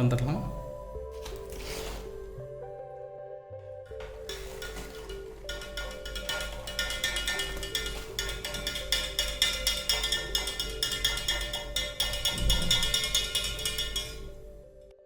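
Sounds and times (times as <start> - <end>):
sustained music tones: 0.0 - 15.0.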